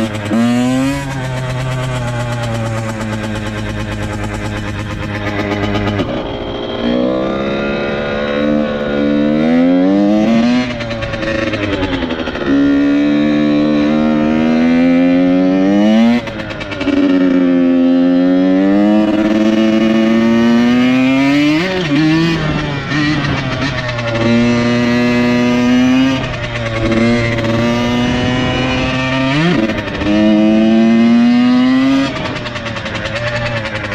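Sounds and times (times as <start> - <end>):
dirt bike engine shifting gears: 0.0 - 33.9.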